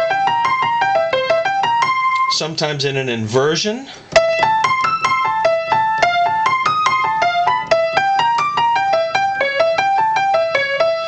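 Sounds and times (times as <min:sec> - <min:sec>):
stride piano runs: 0:00.0 - 0:02.2, 0:04.1 - 0:11.0.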